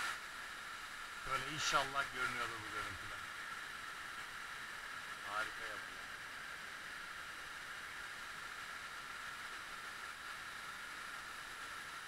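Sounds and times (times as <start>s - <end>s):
underground waterfall rushing: 0.0s - 12.0s.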